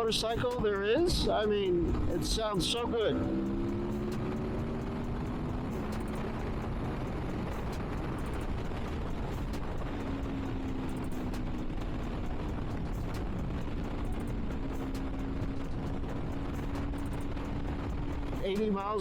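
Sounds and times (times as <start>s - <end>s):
motorcycle engine cruising: 0.0s - 19.0s
wind rush: 3.2s - 19.0s.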